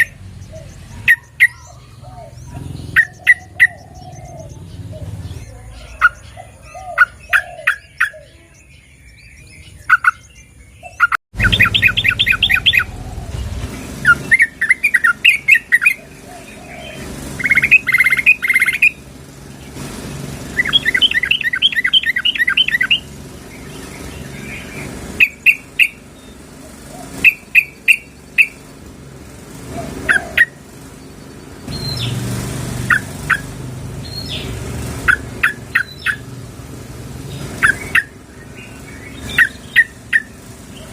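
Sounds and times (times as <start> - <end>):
bulbuls calling: 0.0 - 40.9.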